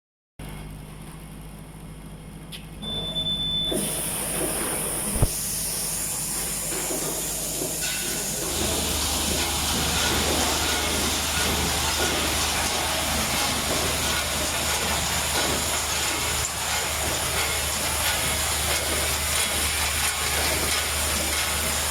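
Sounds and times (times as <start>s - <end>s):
machine hissing air: 3.7s - 21.9s.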